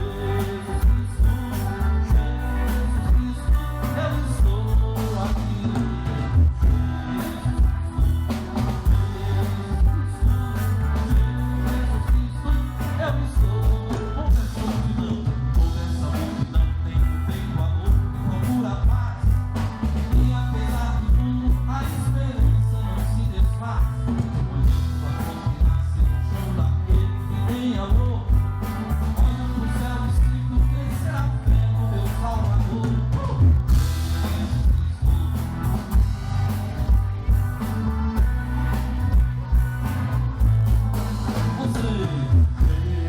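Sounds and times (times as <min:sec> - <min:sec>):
live band playing: 0:00.0 - 0:43.0
person singing: 0:00.0 - 0:43.0.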